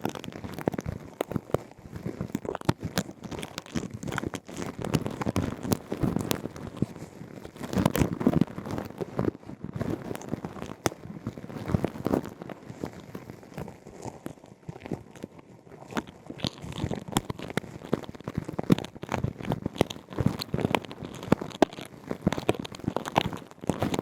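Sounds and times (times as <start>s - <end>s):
ear-cleaning crackling and scratching: 0.0s - 24.0s.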